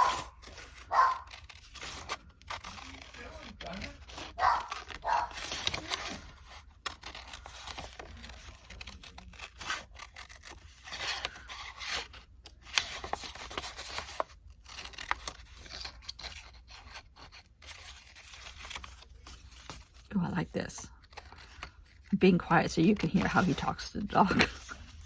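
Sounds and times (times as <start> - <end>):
paper rustling and scraping: 0.0 - 25.0.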